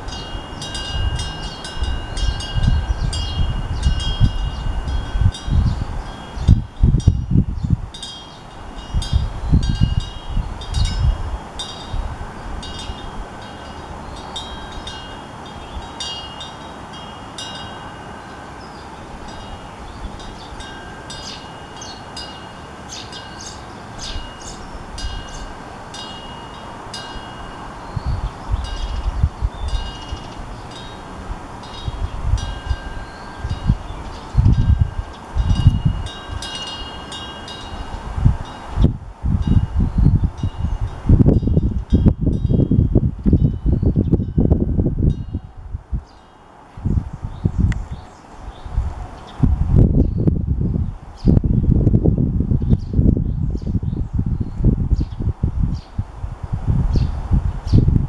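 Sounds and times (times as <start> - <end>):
wind bell ringing: 0.0 - 46.6
wind buffeting microphone: 0.0 - 58.0.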